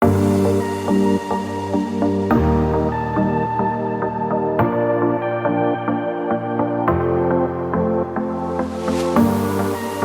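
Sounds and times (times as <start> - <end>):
calm ambient background music: 0.0 - 10.0.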